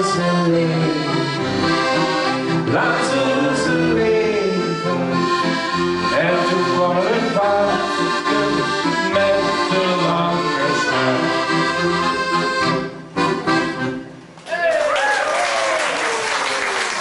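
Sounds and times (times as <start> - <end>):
button accordion playing: 0.0 - 14.2.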